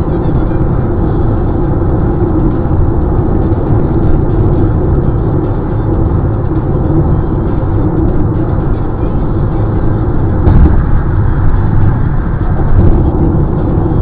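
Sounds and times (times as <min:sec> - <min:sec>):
car cabin highway drone: 0:00.0 - 0:14.0.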